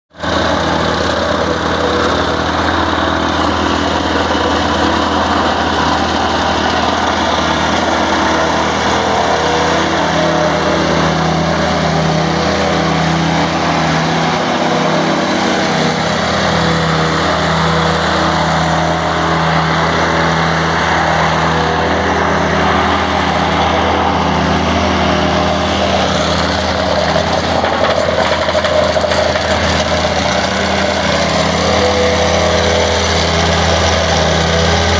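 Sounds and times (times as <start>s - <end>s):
loud engine running: 0.1s - 34.9s.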